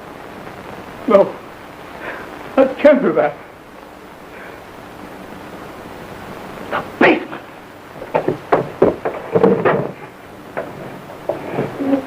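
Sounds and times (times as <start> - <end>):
film soundtrack hiss and rumble: 0.0 - 12.0.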